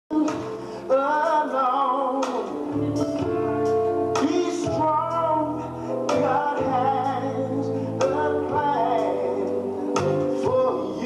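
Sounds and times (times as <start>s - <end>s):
bass and backing instruments: 0.1s - 11.0s
gospel song: 0.1s - 11.0s.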